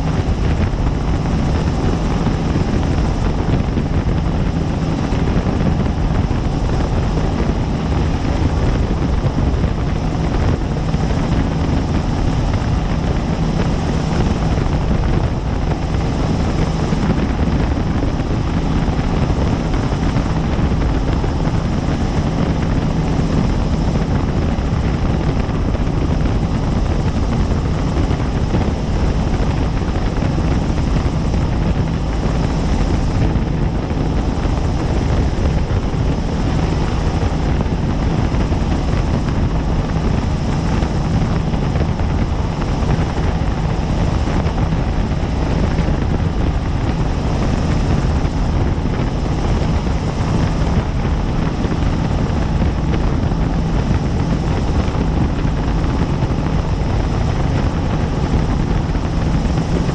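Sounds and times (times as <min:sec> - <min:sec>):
helicopter rotor and turbine: 0:00.0 - 0:59.9.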